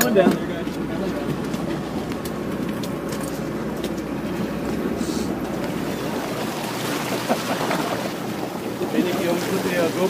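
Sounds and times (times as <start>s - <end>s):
boat engine rumble: 0.0s - 10.0s
wind: 0.0s - 10.0s
sea water noise: 0.2s - 10.0s.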